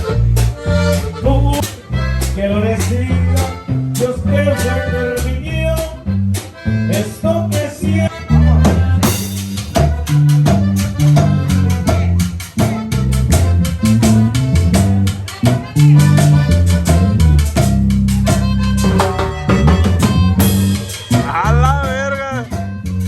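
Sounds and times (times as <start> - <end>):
latin band with accordion lead: 0.0 - 23.0.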